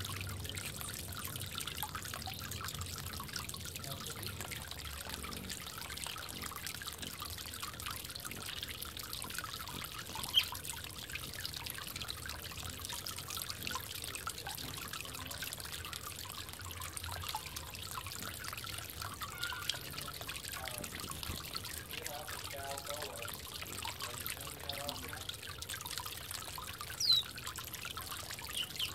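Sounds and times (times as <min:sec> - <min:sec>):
small water splashes: 0:00.0 - 0:28.9
water trickling in bird bath: 0:00.0 - 0:28.9.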